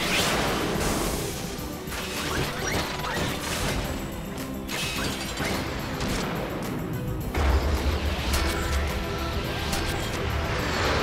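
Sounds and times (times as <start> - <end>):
cartoon action music: 0.0 - 11.0.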